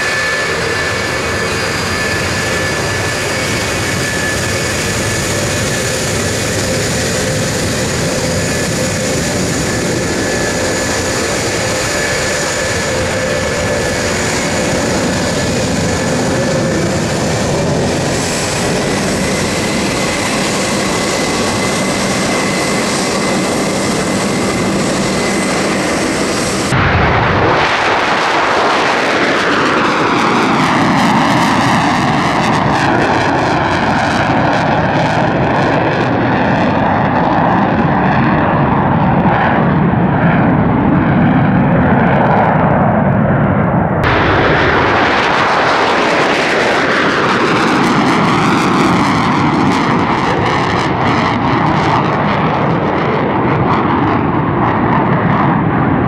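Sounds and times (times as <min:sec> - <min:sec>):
jet engines roaring with whine: 0:00.0 - 0:56.0
jets flying past: 0:00.0 - 0:56.0.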